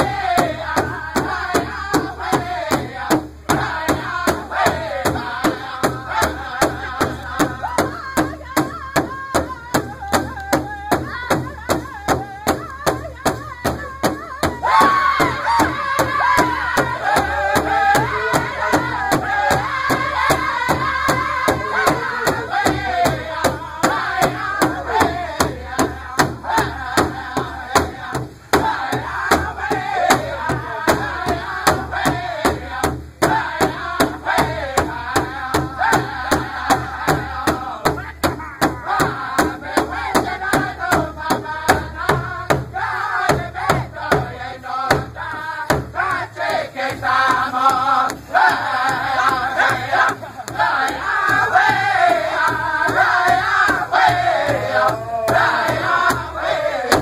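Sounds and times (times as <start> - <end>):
large drum steady beat: 0.0 - 57.0
men singing in high voices: 0.0 - 57.0.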